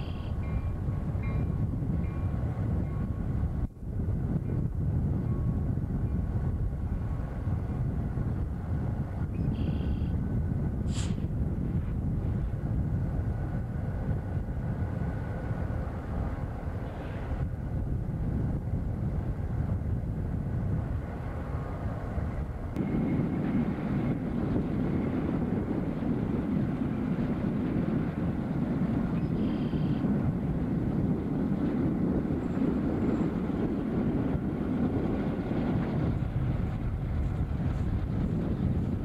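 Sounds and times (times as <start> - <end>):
distant diesel locomotive rumble: 0.0 - 39.0.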